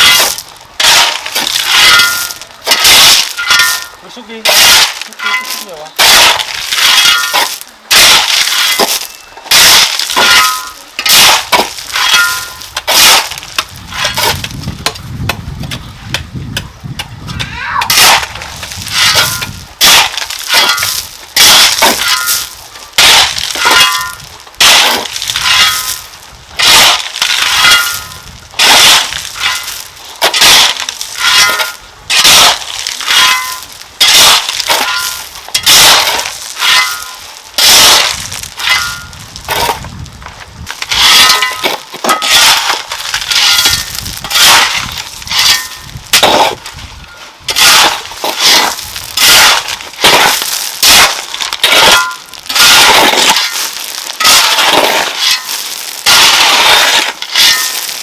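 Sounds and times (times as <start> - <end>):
metal tool striking stone: 0.0 - 17.1, 17.8 - 40.0, 40.7 - 46.7, 47.5 - 57.9.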